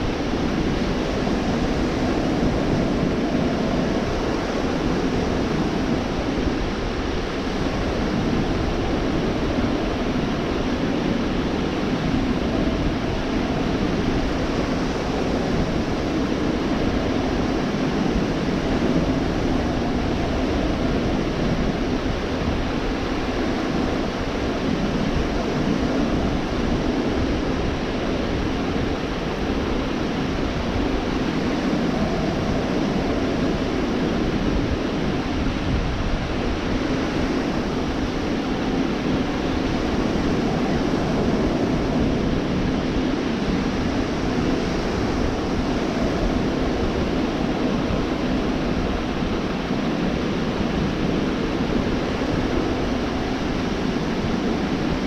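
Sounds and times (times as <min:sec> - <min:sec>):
surf washing onto beach: 0:00.0 - 0:55.0
wind rumble on microphone: 0:00.0 - 0:55.0.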